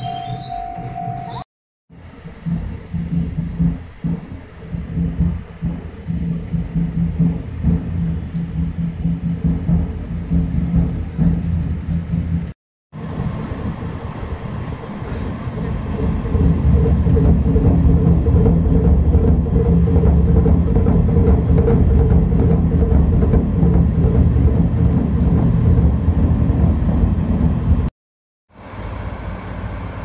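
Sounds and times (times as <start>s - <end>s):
diesel locomotive engine running: 0.0s - 27.9s, 28.6s - 30.0s.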